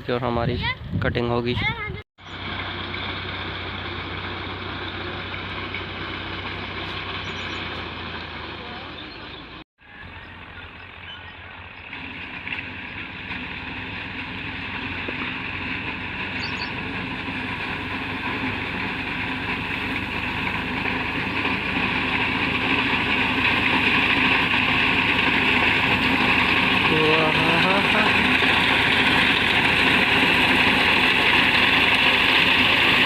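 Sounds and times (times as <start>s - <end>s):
tractor engine running: 1.9s - 33.0s.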